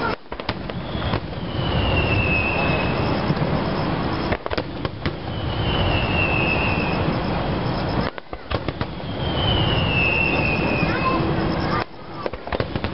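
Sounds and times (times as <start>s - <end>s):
fireworks crackling and rumbling: 0.0s - 12.9s
fireworks sharp bangs: 0.0s - 12.9s
high falling firework whistles: 0.0s - 12.9s.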